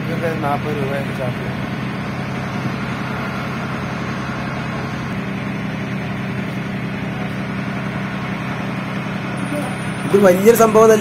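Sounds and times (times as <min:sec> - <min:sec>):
ferry engine humming: 0:00.0 - 0:11.0.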